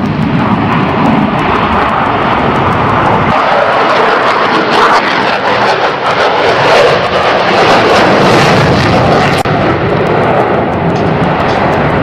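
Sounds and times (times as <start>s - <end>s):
jet roaring overhead: 0.0s - 12.0s.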